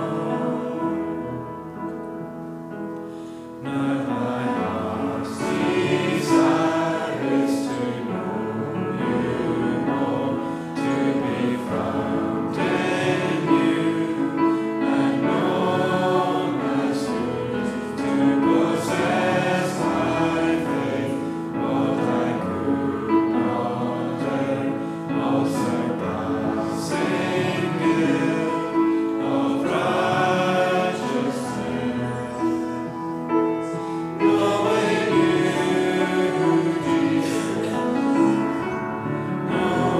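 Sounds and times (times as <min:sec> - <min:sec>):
choir singing held notes: 0:00.0 - 0:39.9.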